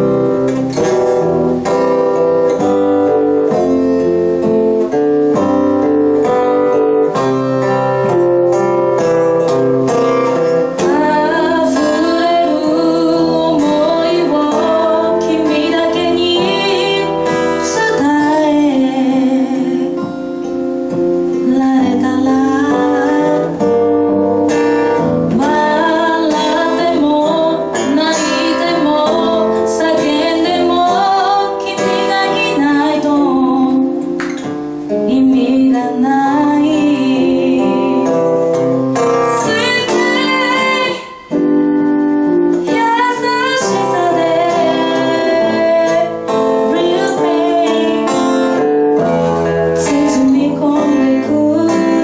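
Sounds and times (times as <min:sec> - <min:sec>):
acoustic guitar chords: 0:00.0 - 0:52.0
woman singing into microphone: 0:06.2 - 0:52.0.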